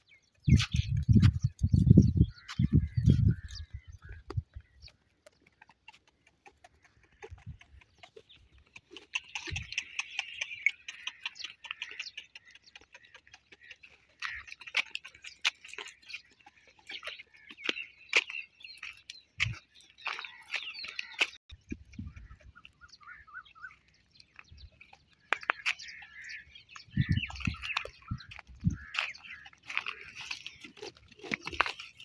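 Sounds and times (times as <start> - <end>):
birds chirping: 0.0 - 32.0
hooves on loose dirt: 0.0 - 32.0.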